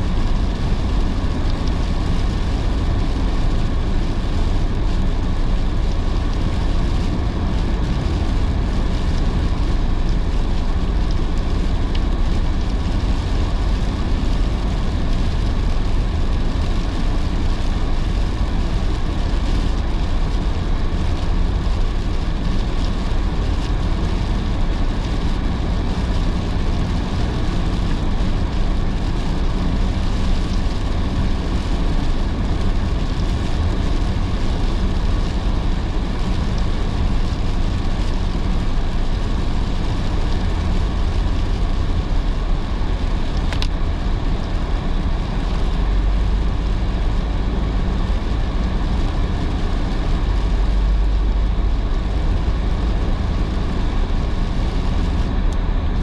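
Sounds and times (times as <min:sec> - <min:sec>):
heavy rain: 0:00.0 - 0:56.0
tyre and road noise: 0:00.0 - 0:56.0.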